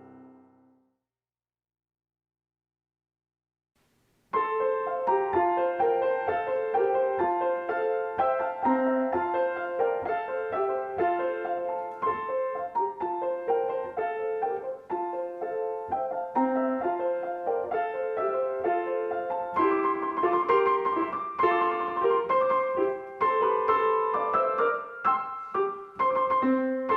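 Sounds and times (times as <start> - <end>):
solo piano melody: 0.0 - 0.8, 4.2 - 26.9.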